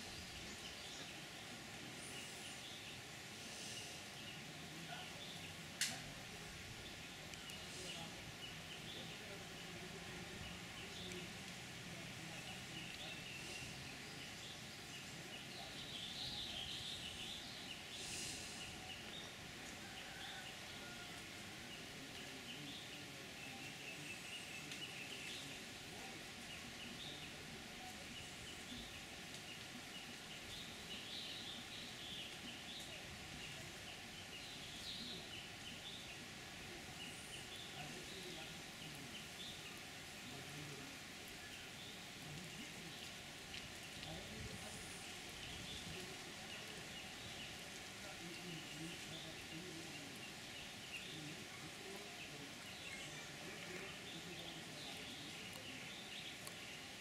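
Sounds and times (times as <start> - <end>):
small birds chirping: 0.0 - 57.0
steady background hiss: 0.0 - 57.0.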